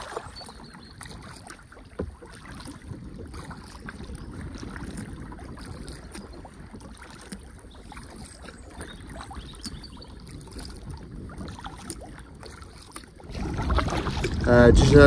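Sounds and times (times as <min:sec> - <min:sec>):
water splashing around kayak: 0:00.0 - 0:15.0
wind rumble on microphone: 0:00.0 - 0:15.0.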